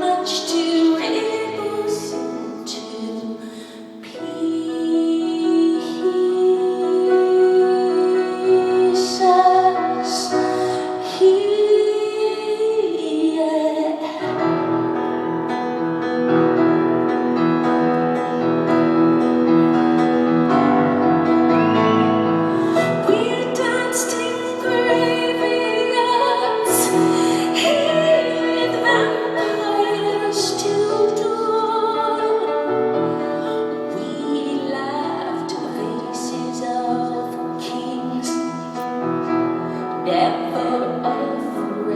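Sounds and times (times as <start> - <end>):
woman singing: 0.0 - 15.0, 19.7 - 41.9
piano accompaniment: 0.0 - 41.9.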